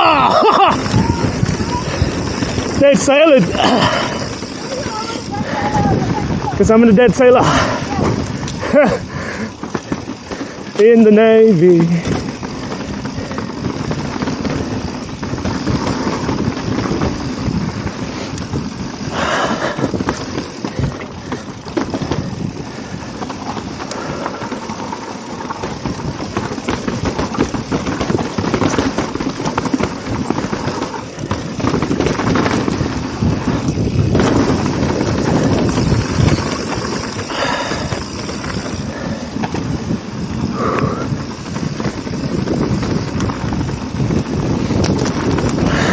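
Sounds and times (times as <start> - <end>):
bike tyres on dirt trail: 0.0 - 45.9
wind buffeting microphone: 0.0 - 45.9.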